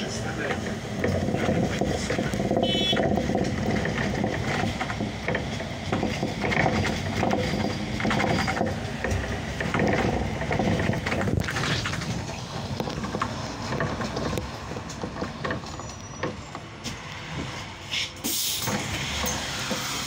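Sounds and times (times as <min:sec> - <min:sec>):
bus running noise: 0:00.0 - 0:20.0
rattling and clicking fittings: 0:00.1 - 0:17.6.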